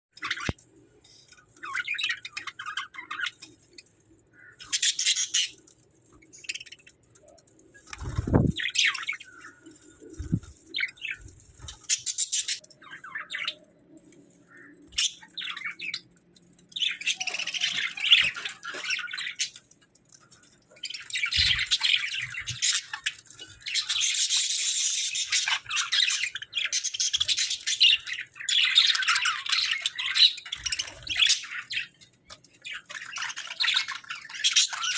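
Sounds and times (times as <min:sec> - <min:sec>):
budgerigars chirping and warbling: 0:00.2 - 0:07.0, 0:08.0 - 0:13.7, 0:14.4 - 0:19.8, 0:20.8 - 0:34.9.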